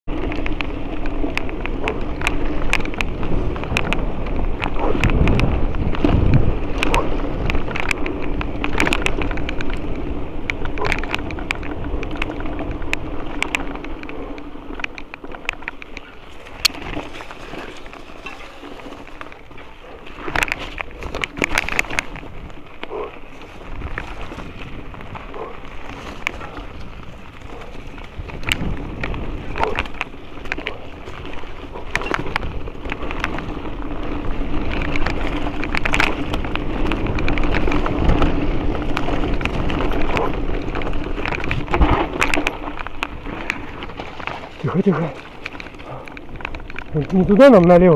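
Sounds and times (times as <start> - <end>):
bike clicking and rattling: 0.0 - 47.9
bike tyres crunching on gravel: 0.0 - 47.9
wind rumble on camera: 0.0 - 47.9.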